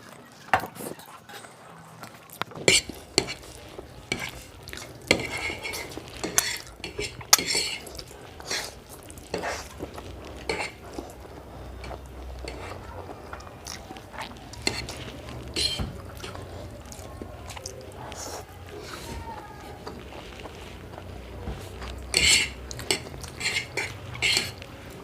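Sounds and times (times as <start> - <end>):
cutlery scraping plates: 2.5 - 25.0.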